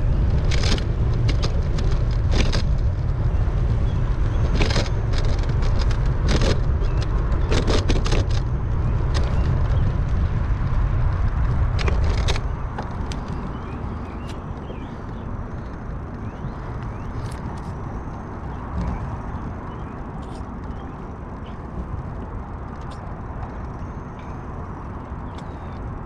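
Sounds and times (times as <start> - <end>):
wind and road noise: 0.0 - 26.0.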